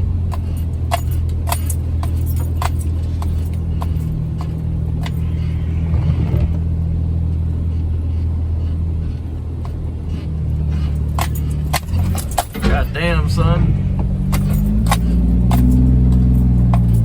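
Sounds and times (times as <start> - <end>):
car engine running under load: 0.0 - 17.0.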